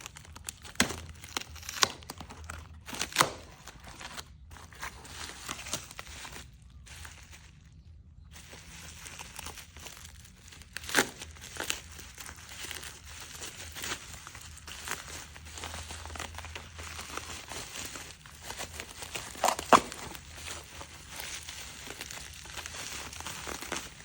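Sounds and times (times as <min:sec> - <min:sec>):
packaging wrap crinkling: 0:00.0 - 0:24.0.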